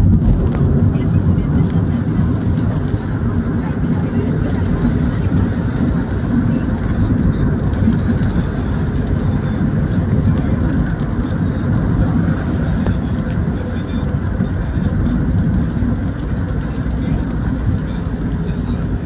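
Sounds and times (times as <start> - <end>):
raindrops ticking on car: 0.0 - 19.0
tyres and engine rumble: 0.0 - 19.0.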